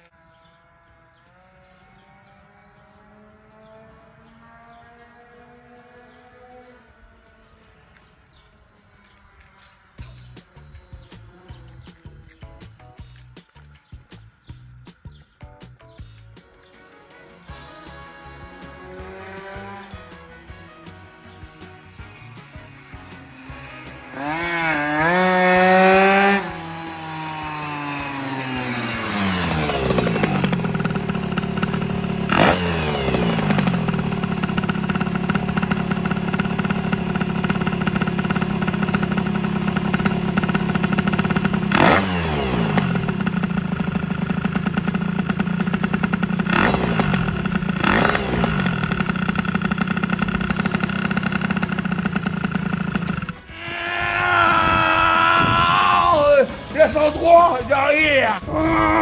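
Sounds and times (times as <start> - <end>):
moped engine revving and idling: 0.5 - 8.4, 9.0 - 12.4, 17.4 - 59.0.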